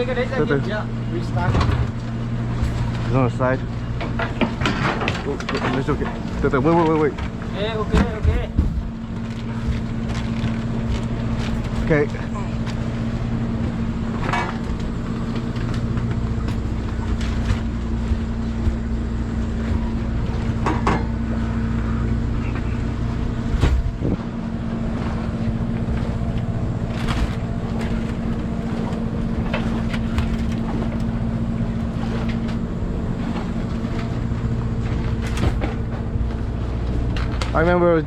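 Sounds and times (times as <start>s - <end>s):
boat engine running: 0.0s - 38.0s
crab traps knocking and clanking: 1.4s - 24.2s, 25.6s - 38.0s.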